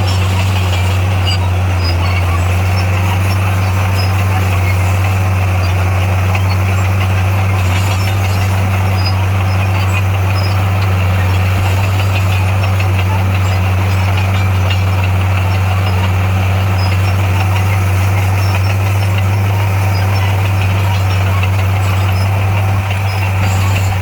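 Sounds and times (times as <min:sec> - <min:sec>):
heavy machine engine droning: 0:00.0 - 0:24.0
rough mechanical clatter: 0:00.0 - 0:24.0.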